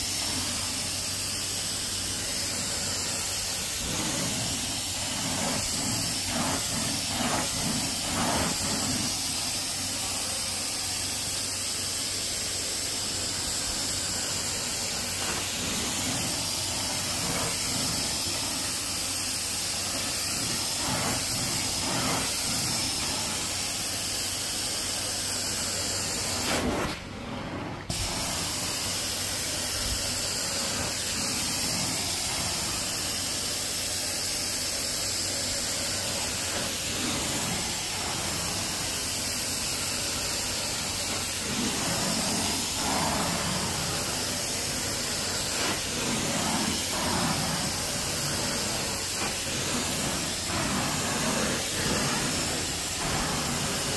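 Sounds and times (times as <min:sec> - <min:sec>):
carpet cleaning wand hissing: 0:00.0 - 0:53.9.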